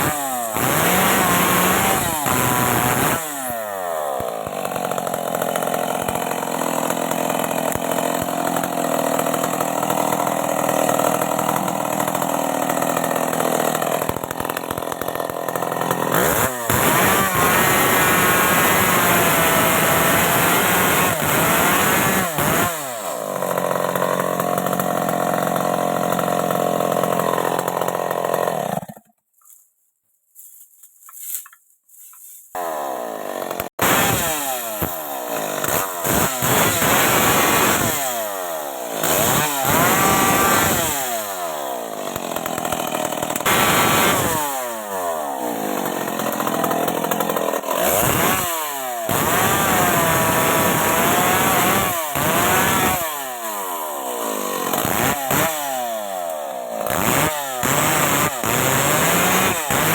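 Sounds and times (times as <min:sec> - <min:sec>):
chainsaw cutting wood: 0:00.0 - 0:29.2, 0:32.5 - 0:59.9.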